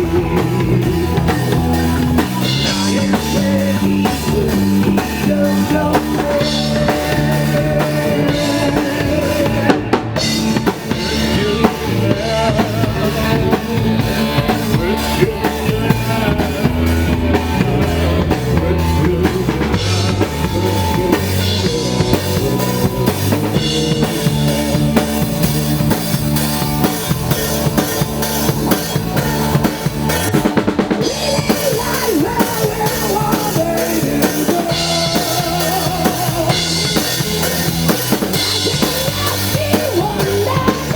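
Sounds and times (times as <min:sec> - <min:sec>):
drum kit beat: 0:00.0 - 0:40.9
rock band playing live: 0:00.0 - 0:40.9.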